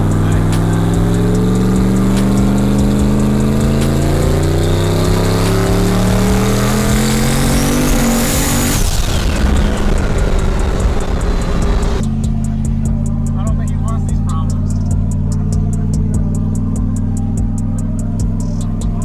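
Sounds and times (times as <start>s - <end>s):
engine revving at full throttle: 0.0s - 19.0s.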